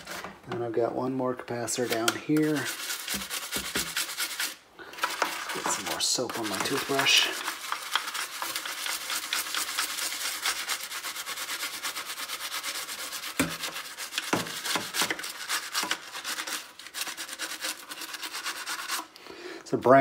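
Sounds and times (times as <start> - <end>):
toothbrush scrubbing circuit board: 1.8 - 19.1.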